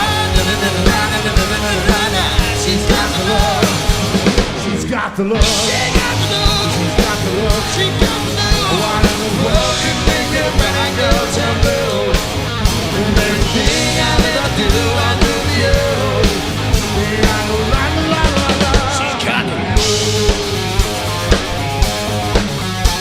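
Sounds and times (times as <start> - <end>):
drum kit beat: 0.0 - 23.0
live rock band playing: 0.0 - 23.0.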